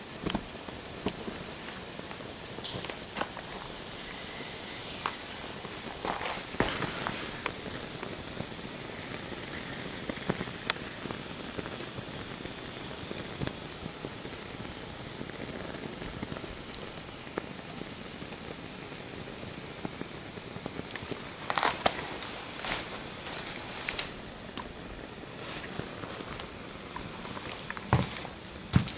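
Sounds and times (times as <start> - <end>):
faint crackles: 0.0 - 28.9
plastic burning hiss: 0.0 - 28.9.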